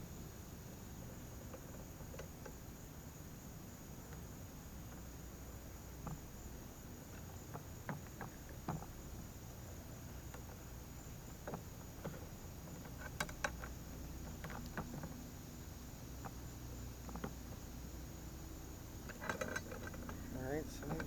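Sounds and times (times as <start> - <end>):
faint high insect drone: 0.0 - 21.0.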